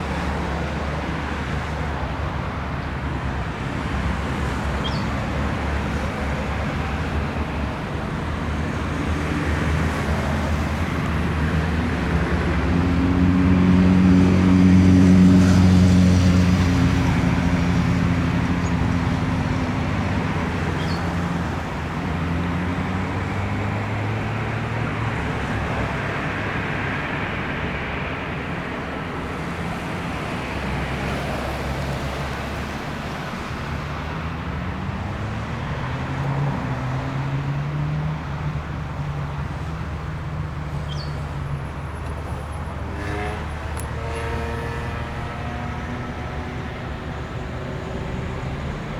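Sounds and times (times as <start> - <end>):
jet engines low hum: 0.0 - 48.9.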